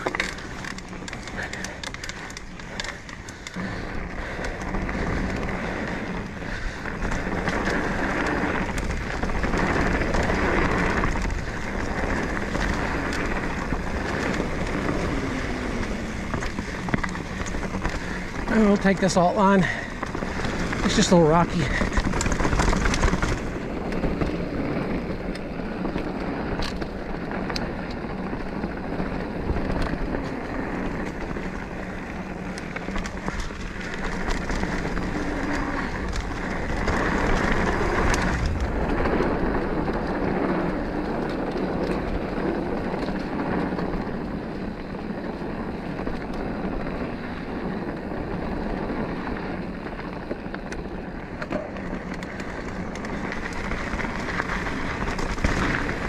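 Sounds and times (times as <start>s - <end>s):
bike clicks and rattles: 0.0s - 56.0s
bike tyres on dirt and rock: 0.0s - 56.0s.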